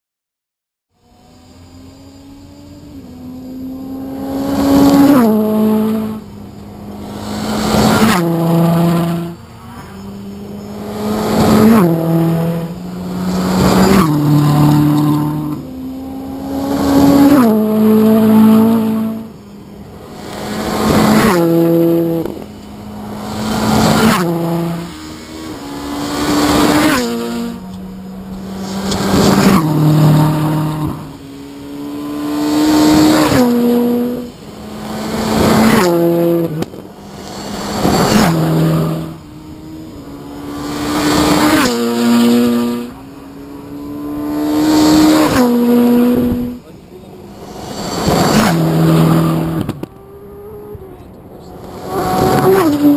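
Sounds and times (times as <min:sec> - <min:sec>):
rally car engines revving hard: 0:01.0 - 0:52.9.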